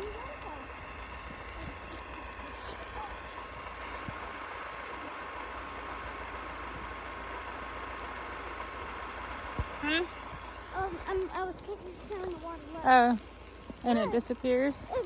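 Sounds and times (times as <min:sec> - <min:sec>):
meltwater trickling: 0:00.0 - 0:15.0.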